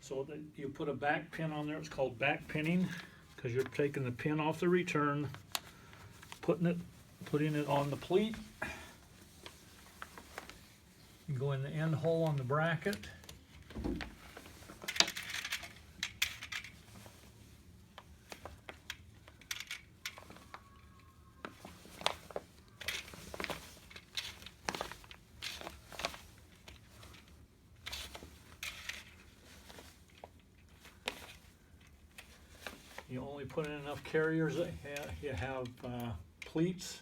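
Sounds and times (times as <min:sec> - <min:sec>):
fabric rustling: 0:00.5 - 0:36.1.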